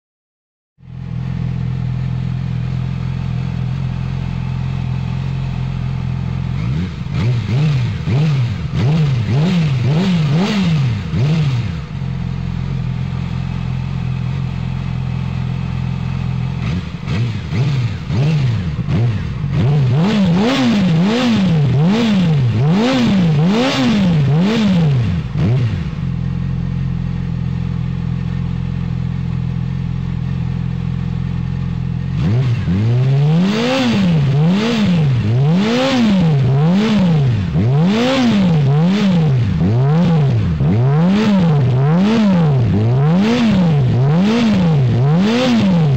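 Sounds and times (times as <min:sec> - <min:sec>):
motorcycle engine idling and revving: 0:00.8 - 0:45.9.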